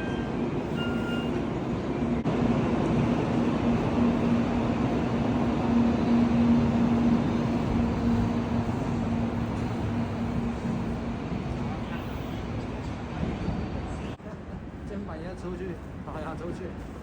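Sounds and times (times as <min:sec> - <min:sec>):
train running hum: 0:00.0 - 0:17.0.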